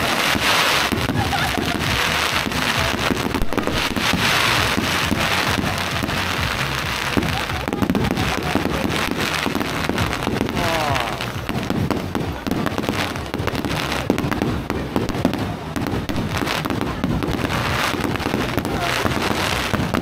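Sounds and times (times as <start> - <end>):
crowd voices: 0.0 - 20.0
fireworks crackling: 0.0 - 20.0.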